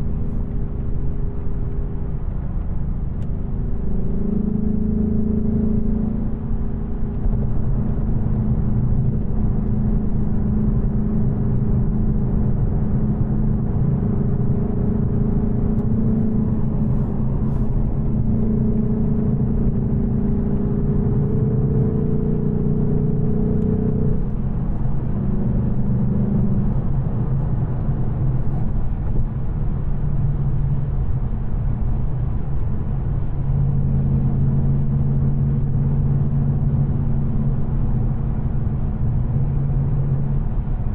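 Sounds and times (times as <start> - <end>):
car engine running: 0.0 - 40.9
road noise rumble: 0.0 - 40.9.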